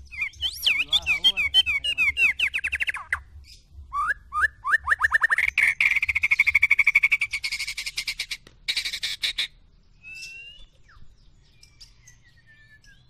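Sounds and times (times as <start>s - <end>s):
bird whistling and trilling: 0.0s - 13.0s.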